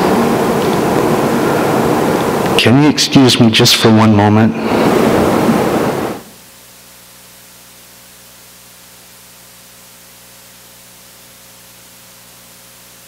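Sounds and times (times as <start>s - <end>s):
low electrical hum: 0.0s - 13.0s
sound system hiss: 0.0s - 13.0s.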